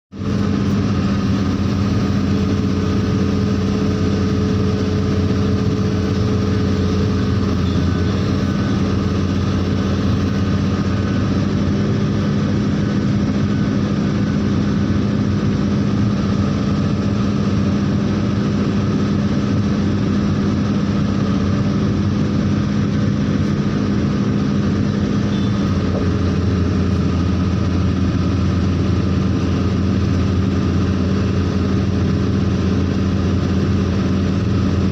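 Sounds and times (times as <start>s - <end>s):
heavy vehicle engine running: 0.1s - 34.9s.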